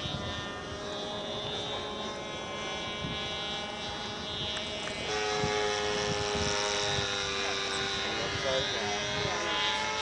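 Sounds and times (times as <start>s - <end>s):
model airplane engine buzzing: 0.0s - 10.0s.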